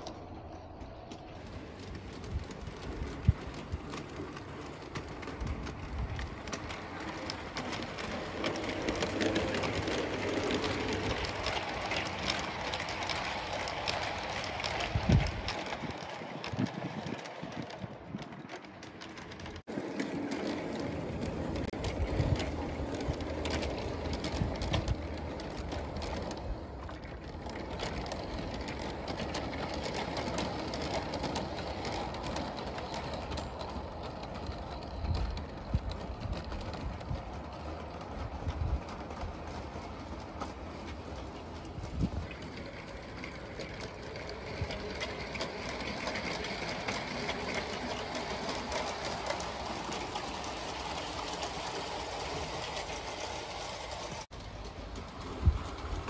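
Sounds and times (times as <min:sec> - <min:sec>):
model trains rumbling on track: 0:00.0 - 0:56.0.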